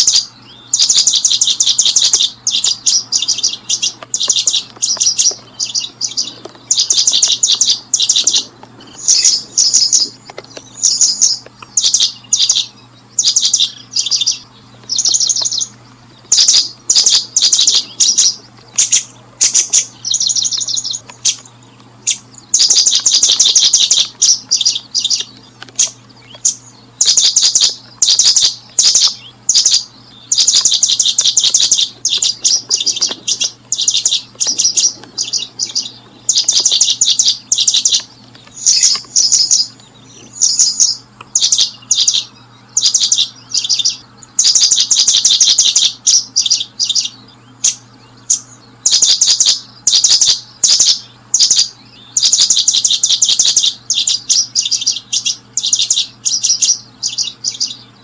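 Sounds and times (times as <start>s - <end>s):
faint low hum: 0.0s - 58.0s
small bird chirping rapidly: 0.0s - 58.0s.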